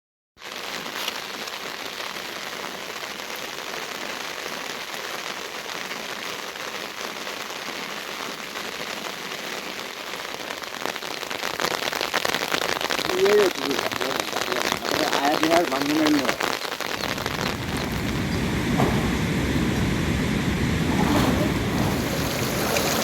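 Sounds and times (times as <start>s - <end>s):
heavy rain falling: 0.4s - 23.0s.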